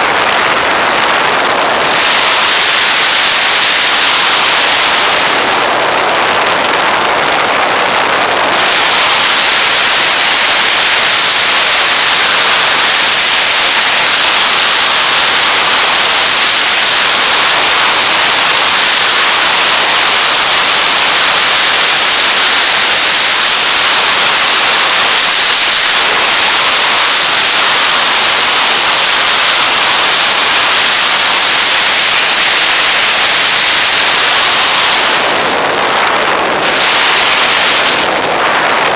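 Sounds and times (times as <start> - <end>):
wind hissing over microphone: 0.0 - 38.9.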